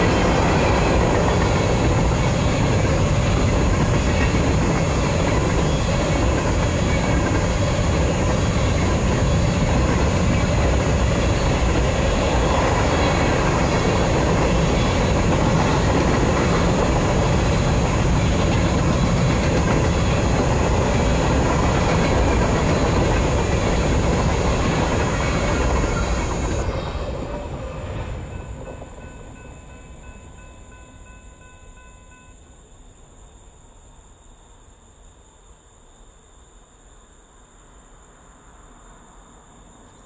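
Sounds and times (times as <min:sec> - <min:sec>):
freight train wheels rumbling: 0:00.0 - 0:32.3.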